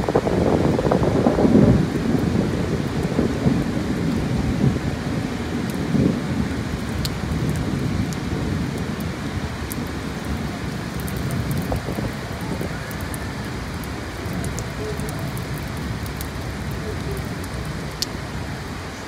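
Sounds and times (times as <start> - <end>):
thunder rumbling: 0.0 - 18.7
heavy rain falling: 0.0 - 19.0
raindrops ticking close by: 0.0 - 19.0.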